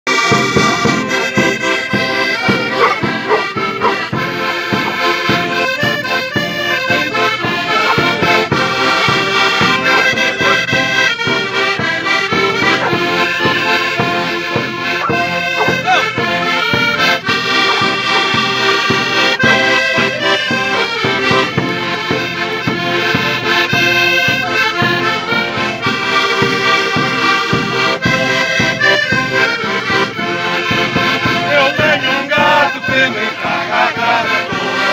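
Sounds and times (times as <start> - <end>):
accordions playing folk tune: 0.1 - 34.9
bass drum beat: 0.3 - 33.2.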